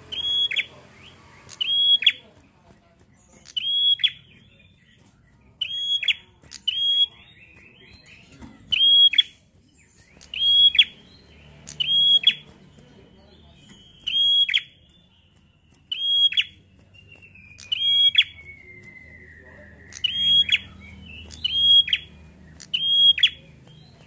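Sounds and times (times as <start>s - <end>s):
soft buzzy bird chatter: 0.0s - 24.0s.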